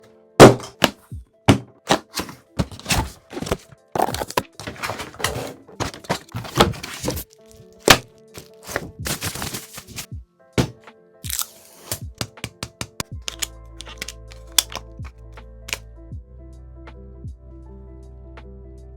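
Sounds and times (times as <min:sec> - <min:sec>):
background music: 0:00.0 - 0:18.9.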